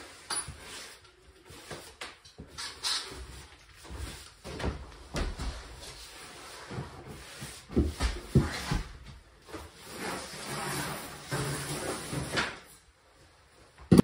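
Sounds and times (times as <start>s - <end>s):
broom sweeping on wooden floor: 0.0s - 2.0s, 3.1s - 12.7s.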